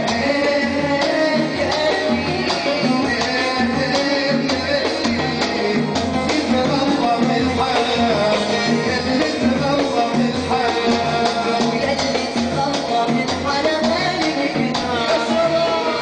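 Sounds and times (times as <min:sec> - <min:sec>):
hand percussion rhythm: 0:00.0 - 0:16.0.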